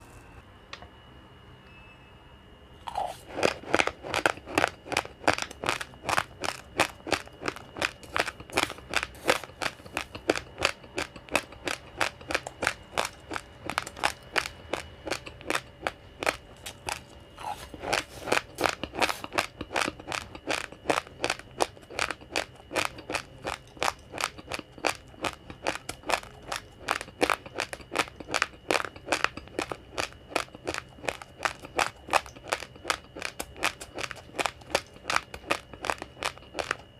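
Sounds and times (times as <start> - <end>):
crunchy rice chewing: 2.8 - 36.9.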